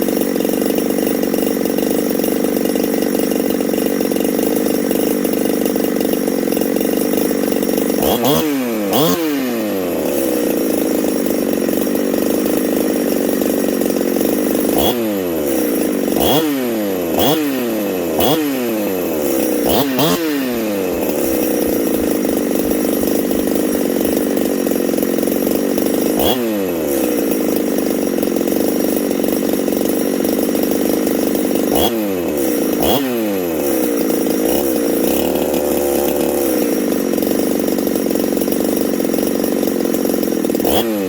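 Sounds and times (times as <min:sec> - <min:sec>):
chainsaw revving: 0:00.0 - 0:41.0.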